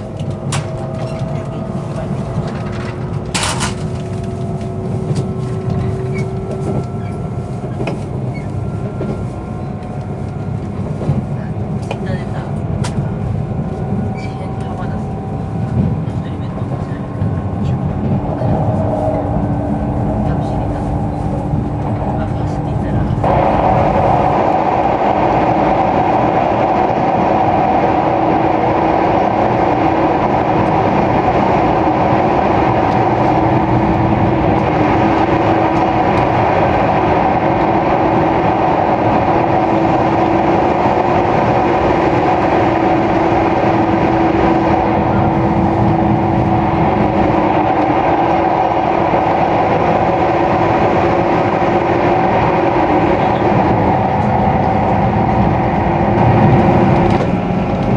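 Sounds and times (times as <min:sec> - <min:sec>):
train running noise inside car: 0:00.0 - 0:57.9.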